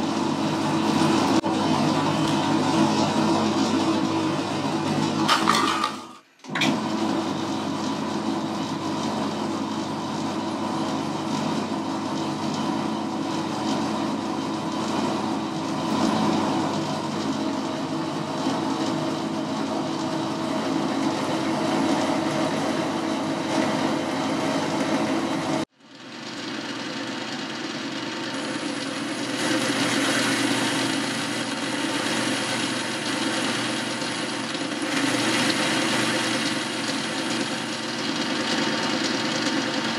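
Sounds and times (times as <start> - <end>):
lathe cutting metal: 0.0 - 39.9.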